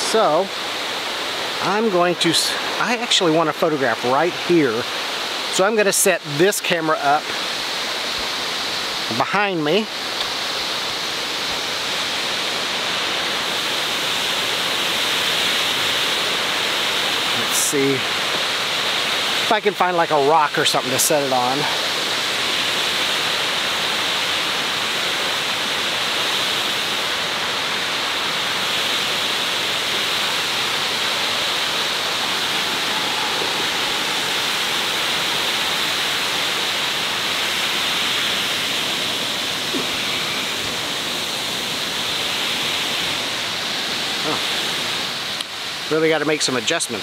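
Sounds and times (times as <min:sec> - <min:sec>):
water rushing over waterfall: 0:00.0 - 0:47.0.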